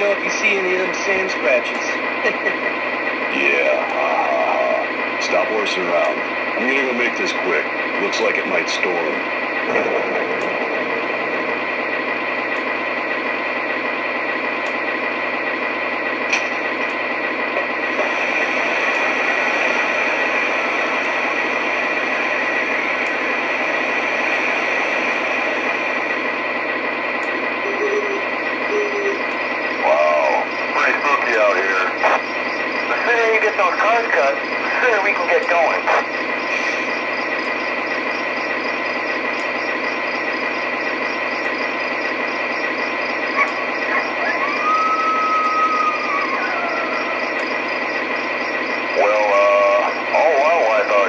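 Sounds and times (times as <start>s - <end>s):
diesel engine idle through speaker: 0.0s - 51.0s
model train hissing rush: 0.0s - 51.0s.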